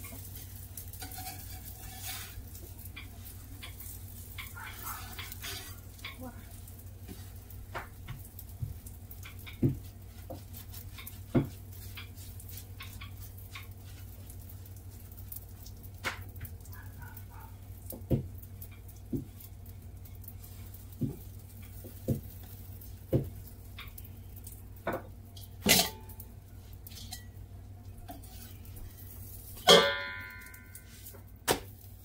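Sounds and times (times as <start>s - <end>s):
flatbread sizzling on griddle: 0.0s - 32.0s.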